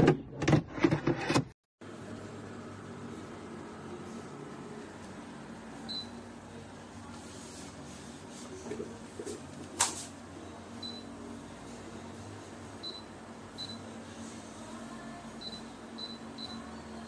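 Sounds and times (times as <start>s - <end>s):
dehumidifier fan hum: 1.8s - 17.0s.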